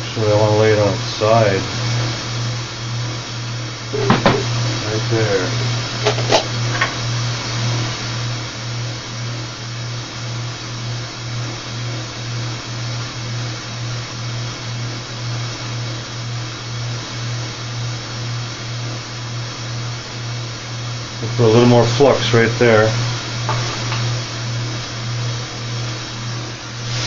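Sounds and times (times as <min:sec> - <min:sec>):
low pulsing hum: 0:00.0 - 0:27.0
torch flame hissing: 0:00.0 - 0:27.0.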